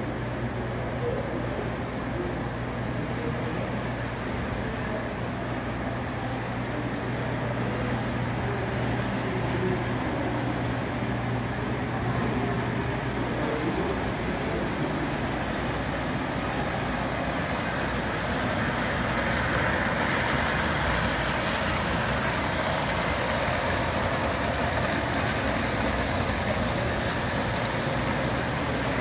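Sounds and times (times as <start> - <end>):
model trains rumbling: 0.0 - 29.0.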